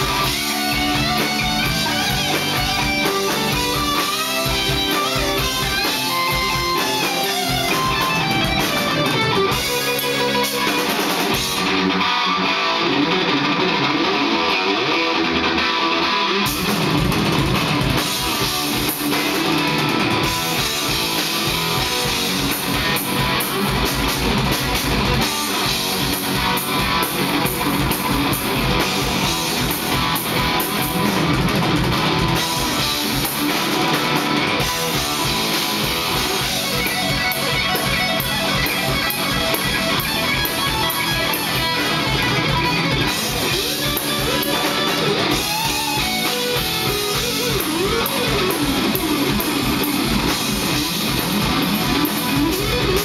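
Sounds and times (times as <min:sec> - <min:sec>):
bass and drums: 0:00.0 - 0:53.0
lead electric guitar: 0:00.0 - 0:53.0.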